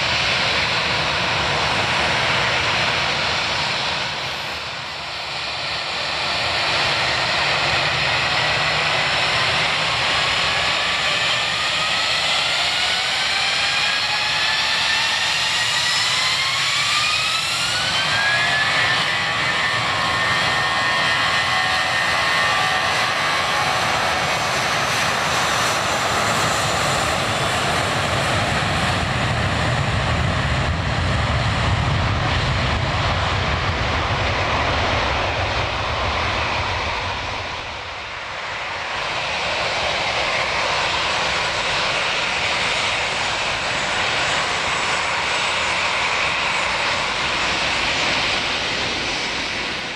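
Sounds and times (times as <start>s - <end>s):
jet engine roar: 0.0s - 49.9s
jet engines spooling up: 0.0s - 49.9s.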